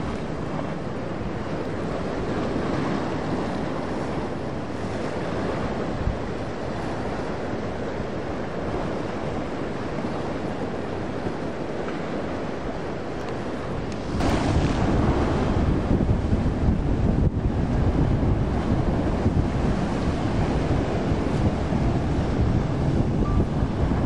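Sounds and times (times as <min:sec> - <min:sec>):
water rushing: 0:00.0 - 0:24.0
wind: 0:00.0 - 0:24.0.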